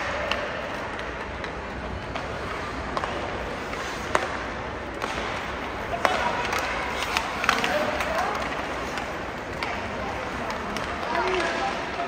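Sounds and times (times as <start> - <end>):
hockey stick and puck clicks: 0.0 - 12.0.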